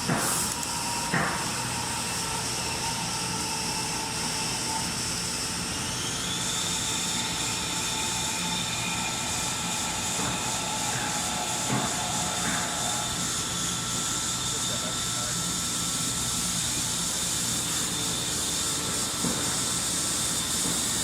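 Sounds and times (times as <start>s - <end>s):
high machine whines: 0.0s - 21.0s
machine hiss: 0.0s - 21.0s.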